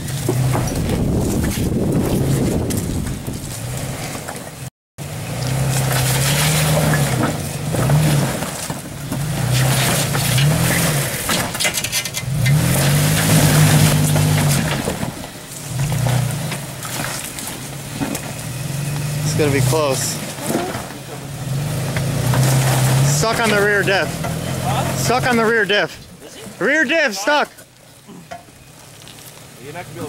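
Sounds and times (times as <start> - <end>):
rocks crunching under tyres: 0.0 - 30.0
truck engine revving: 0.0 - 30.0.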